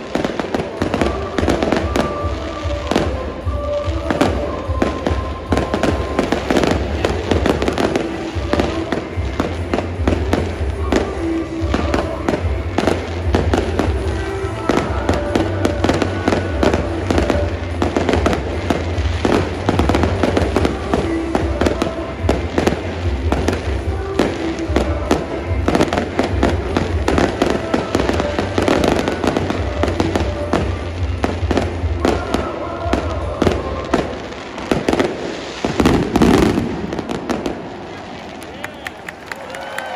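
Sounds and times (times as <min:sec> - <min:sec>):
fireworks bangs and crackles: 0:00.0 - 0:39.9
music playing: 0:00.0 - 0:39.9.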